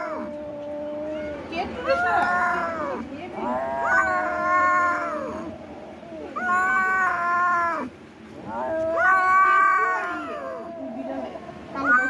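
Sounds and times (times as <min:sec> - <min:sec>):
kitten yowling: 0:00.0 - 0:12.0.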